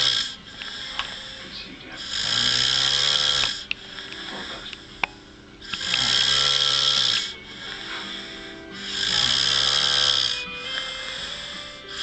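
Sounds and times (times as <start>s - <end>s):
man snoring: 0.0s - 4.7s, 5.6s - 12.0s.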